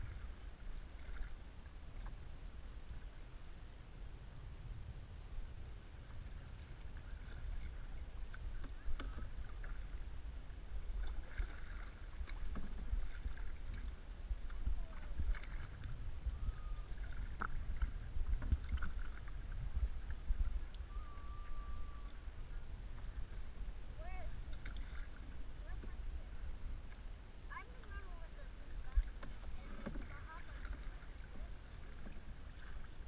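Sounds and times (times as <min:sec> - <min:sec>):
paddle splashing water: 0:00.0 - 0:03.8, 0:05.4 - 0:33.0
steady low rumble: 0:00.0 - 0:11.3, 0:12.0 - 0:33.0
water lapping along hull: 0:00.0 - 0:33.0.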